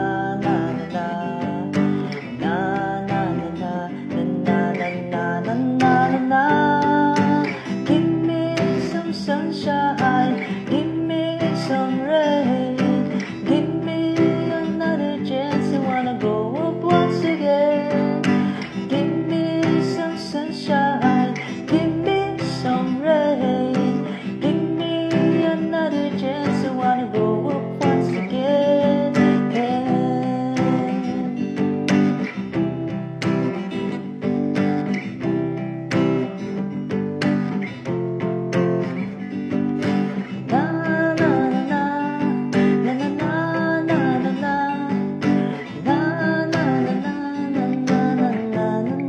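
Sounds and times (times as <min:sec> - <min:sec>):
acoustic guitar playing: 0:00.0 - 0:49.0.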